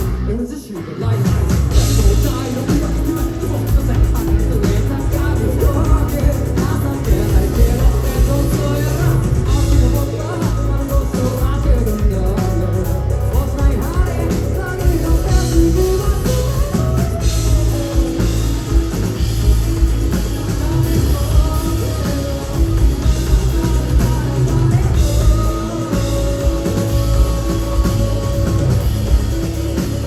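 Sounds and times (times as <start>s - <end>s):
bass guitar: 0.0s - 30.0s
drums: 0.0s - 30.0s
electric guitar: 0.0s - 30.0s
person singing: 0.0s - 30.0s.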